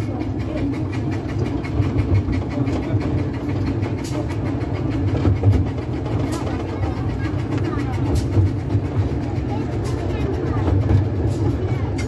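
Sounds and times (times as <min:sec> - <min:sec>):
fast clicks of rails: 0:00.0 - 0:12.0
train wheels rumbling on track: 0:00.0 - 0:12.0.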